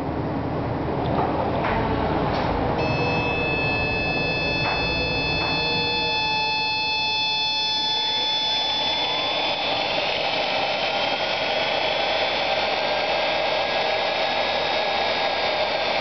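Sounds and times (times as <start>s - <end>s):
electric motor high-pitched whine: 2.8s - 16.0s
rising lower motor tone: 2.8s - 16.0s.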